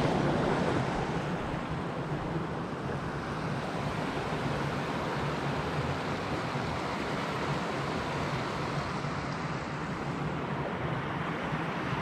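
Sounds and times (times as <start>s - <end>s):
rushing mountain stream: 0.0s - 12.0s.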